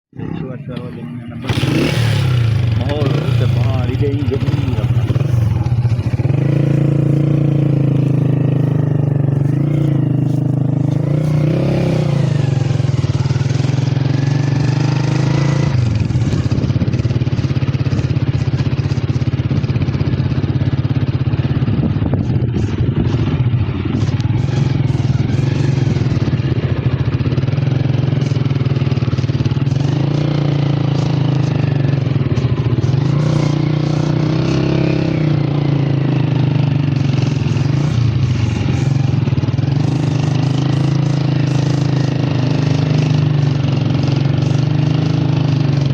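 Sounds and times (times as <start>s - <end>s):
vehicle engine humming: 0.2s - 45.9s.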